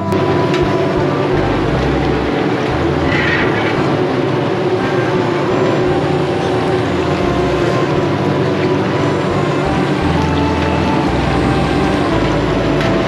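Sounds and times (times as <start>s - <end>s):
background music with bass: 0.0s - 13.0s.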